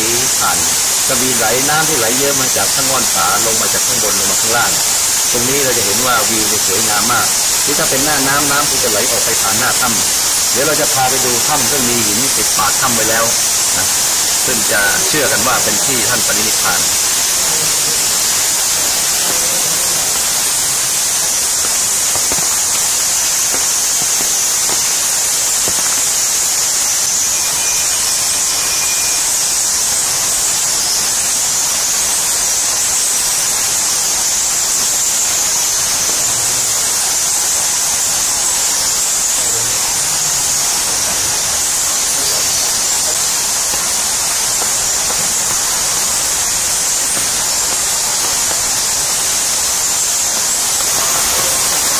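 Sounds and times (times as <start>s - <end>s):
stream and waterfall rushing: 0.0s - 51.9s.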